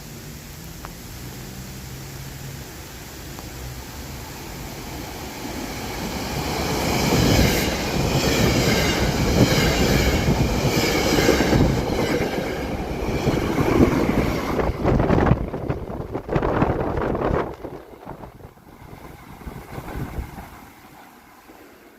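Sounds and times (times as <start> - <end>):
train passing on rails: 0.0 - 21.9.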